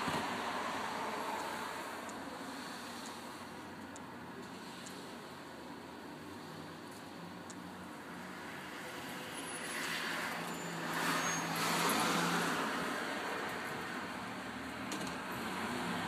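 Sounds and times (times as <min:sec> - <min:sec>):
tyre and road noise: 0:00.0 - 0:16.0.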